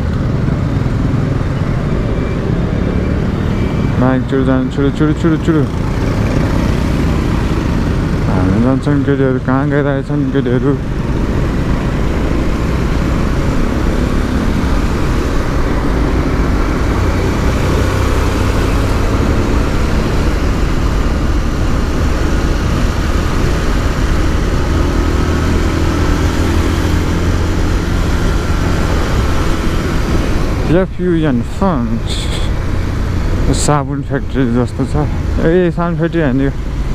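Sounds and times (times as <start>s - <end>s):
motorcycle engine running: 0.0s - 4.2s, 5.0s - 36.9s.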